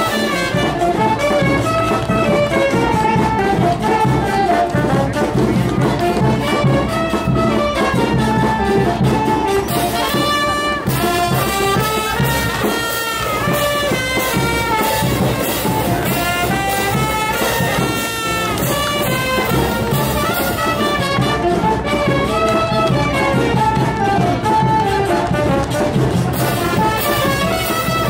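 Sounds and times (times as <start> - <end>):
jazzy brass music: 0.0 - 28.0.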